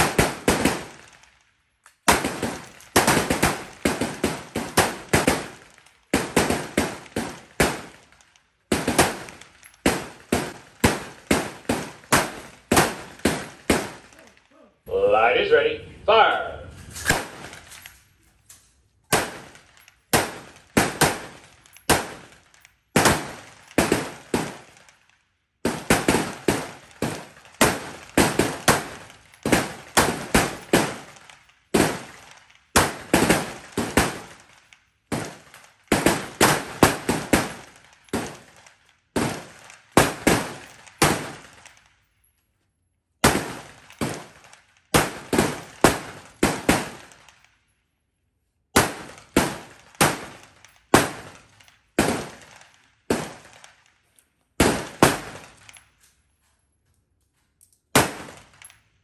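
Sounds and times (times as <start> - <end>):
rifle shots with echo: 0.0 - 1.2, 2.0 - 17.9, 19.1 - 38.6, 39.2 - 41.9, 43.2 - 47.5, 48.8 - 53.9, 54.6 - 55.8, 57.9 - 58.7.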